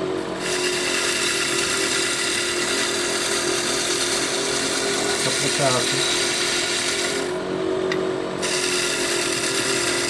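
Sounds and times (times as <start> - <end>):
wood lathe humming: 0.0 - 10.0
gouge scraping spinning wood: 0.2 - 7.5, 8.4 - 10.0.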